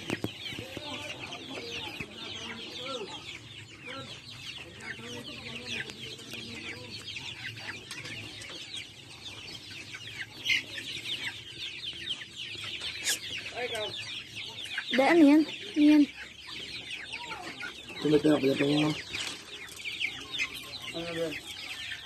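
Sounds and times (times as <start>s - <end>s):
chickens clucking: 0.0s - 22.0s
chicks peeping: 0.0s - 22.0s.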